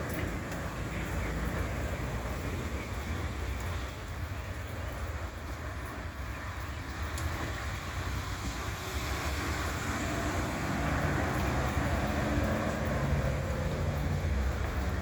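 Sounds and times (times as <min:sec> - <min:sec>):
road noise: 0:00.0 - 0:15.0
traffic: 0:00.0 - 0:15.0
vehicle engine drone: 0:00.0 - 0:15.0.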